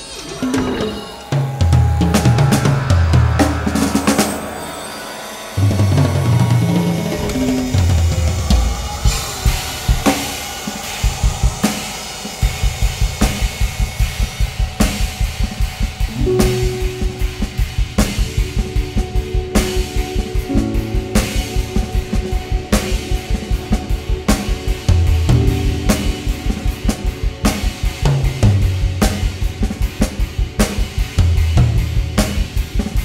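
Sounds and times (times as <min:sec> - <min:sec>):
cymbal strikes: 0:01.1 - 0:32.8.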